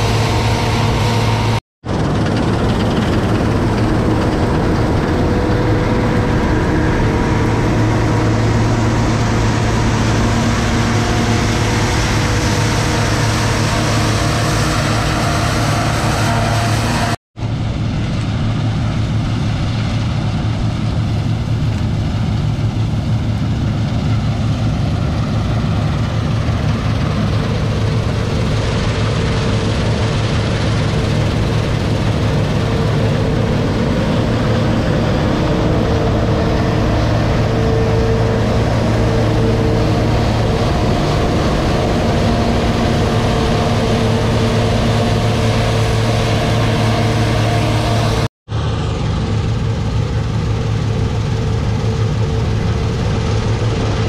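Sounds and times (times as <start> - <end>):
diesel farm machinery droning: 0.0 - 54.0.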